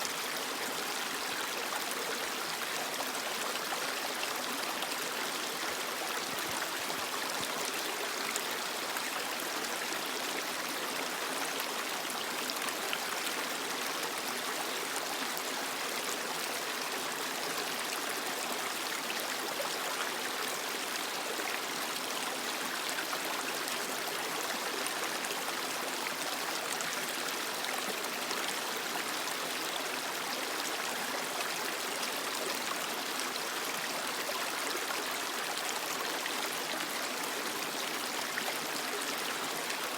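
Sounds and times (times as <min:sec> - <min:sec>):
creek water flowing over rocks: 0:00.0 - 0:39.9.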